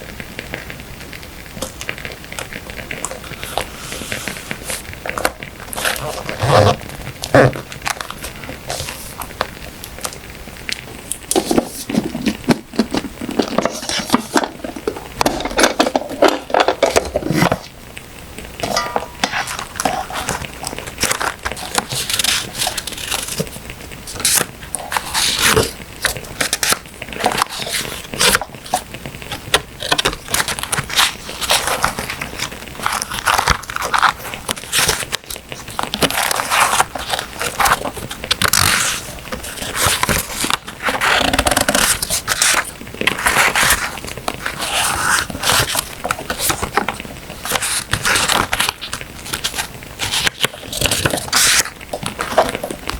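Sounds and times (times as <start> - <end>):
paper rustling and crinkling: 1.6 - 17.8, 18.5 - 52.9.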